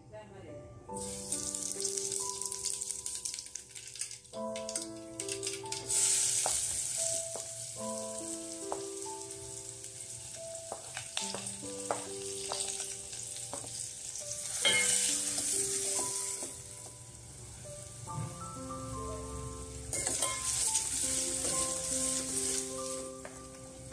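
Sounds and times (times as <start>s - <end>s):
onions sizzling in hot oil: 1.0s - 23.9s.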